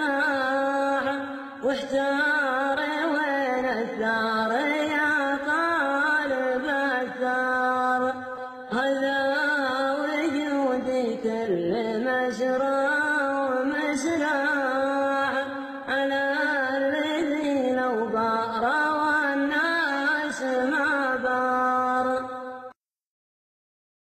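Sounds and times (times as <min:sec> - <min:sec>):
voice chanting wavering melody: 0:00.0 - 0:22.7.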